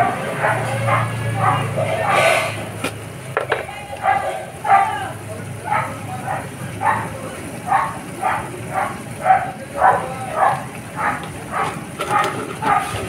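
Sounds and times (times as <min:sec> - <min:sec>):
dog barking: 0:00.0 - 0:02.6, 0:04.0 - 0:13.0.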